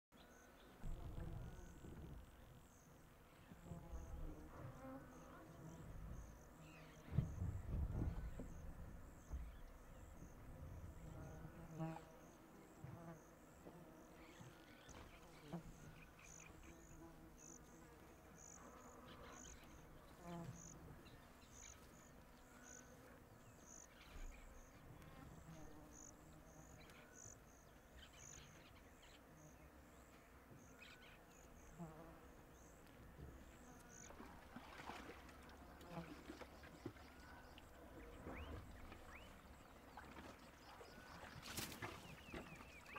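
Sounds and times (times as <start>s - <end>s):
faint insect chirping: 0.2s - 42.9s.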